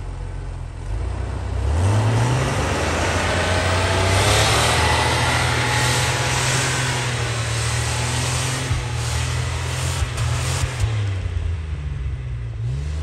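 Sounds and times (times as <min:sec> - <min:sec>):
vehicle engine pulling away: 0:00.0 - 0:13.0.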